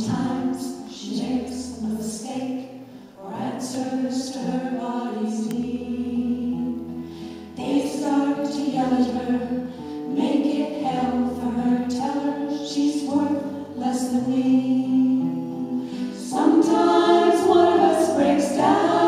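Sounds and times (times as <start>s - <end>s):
women singing in harmony: 0.0s - 19.0s.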